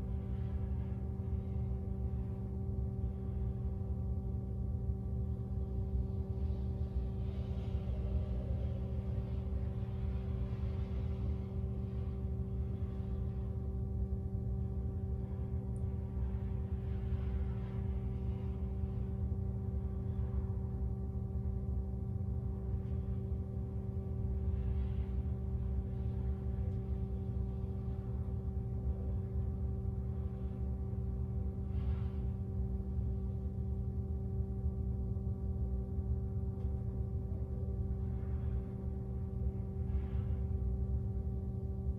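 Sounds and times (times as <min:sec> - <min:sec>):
mechanical hum over low rumble: 0:00.0 - 0:41.9.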